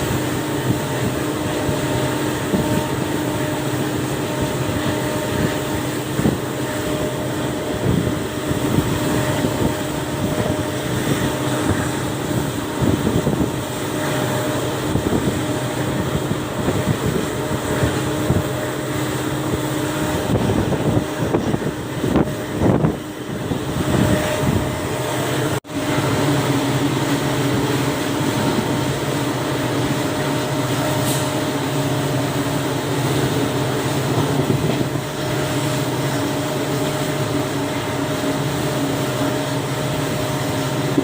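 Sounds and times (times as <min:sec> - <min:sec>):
diesel locomotive engine running: 0:00.0 - 0:41.0
steady hum: 0:00.0 - 0:41.0.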